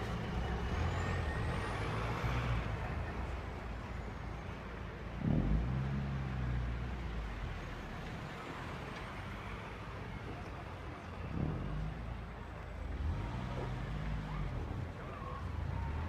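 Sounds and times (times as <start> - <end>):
steady outdoor rumble: 0.0 - 16.0.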